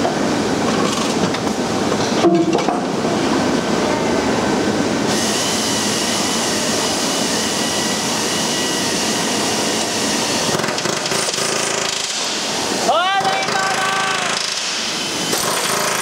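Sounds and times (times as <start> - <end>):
factory machinery noise: 0.0 - 16.0.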